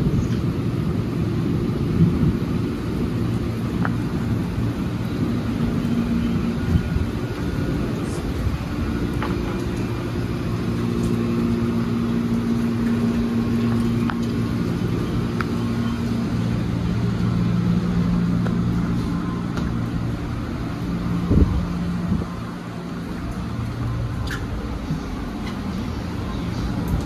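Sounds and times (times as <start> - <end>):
electric train humming: 0.0 - 27.0.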